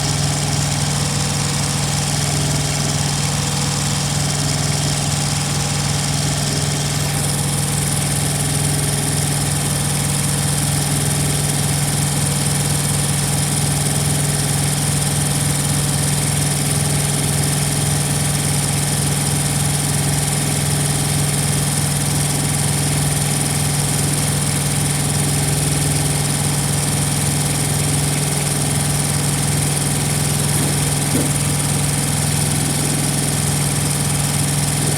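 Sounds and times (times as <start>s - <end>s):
small diesel engine idling: 0.0s - 34.9s.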